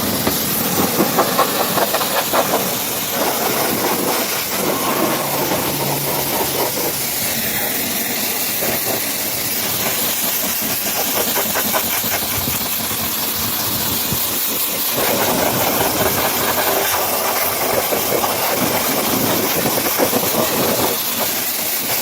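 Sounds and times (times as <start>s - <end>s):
high-pressure water jet spraying: 0.0s - 22.0s.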